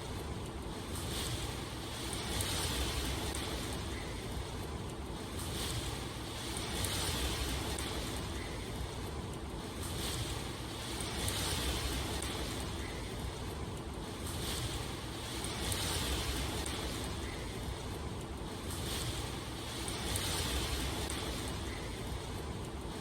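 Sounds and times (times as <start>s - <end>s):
steady rain hissing: 0.0s - 23.0s.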